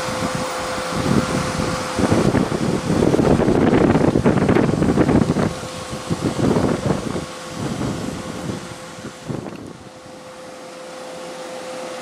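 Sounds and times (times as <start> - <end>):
wind buffeting microphone: 0.0 - 10.0
high-speed train rumble: 0.0 - 11.6
steady hum: 0.0 - 12.0.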